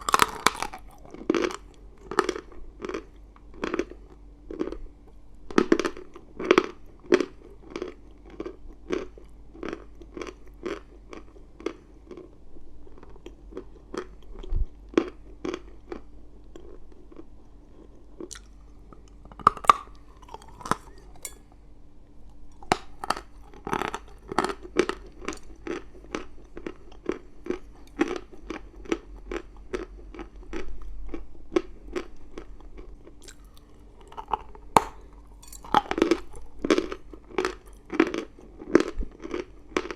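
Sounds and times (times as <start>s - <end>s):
chalk crunching and chewing: 0.0s - 21.4s, 22.3s - 39.9s.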